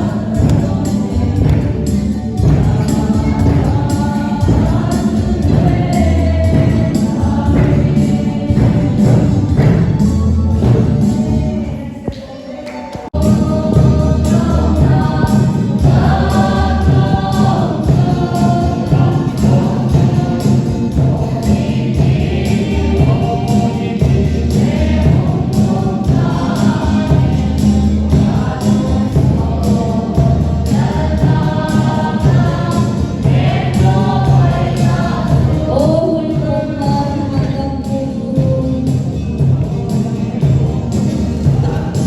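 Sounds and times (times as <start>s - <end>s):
group singing over a beat: 0.0s - 42.0s.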